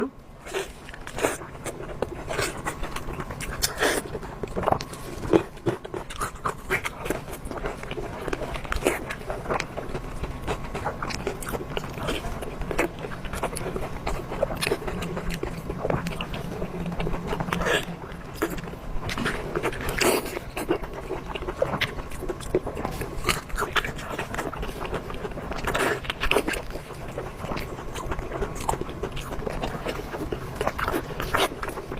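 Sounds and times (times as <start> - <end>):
sausage being chewed: 0.4 - 31.9.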